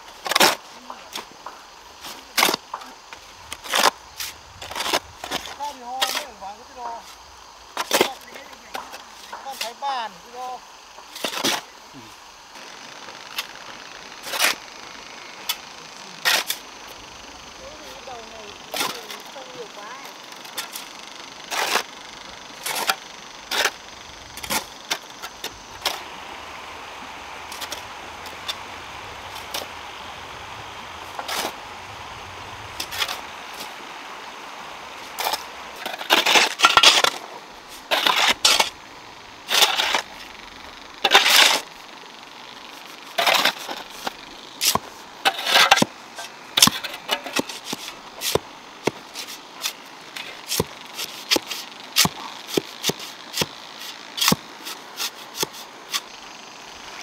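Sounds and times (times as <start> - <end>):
shovels scraping sand: 0.0 - 33.9, 34.9 - 41.8, 42.6 - 56.2.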